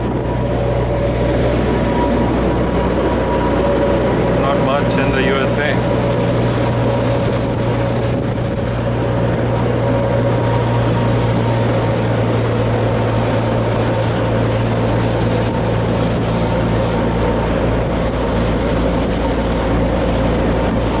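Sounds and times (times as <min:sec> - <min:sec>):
motorboat engine droning: 0:00.0 - 0:21.0
water rushing in wake: 0:00.0 - 0:21.0.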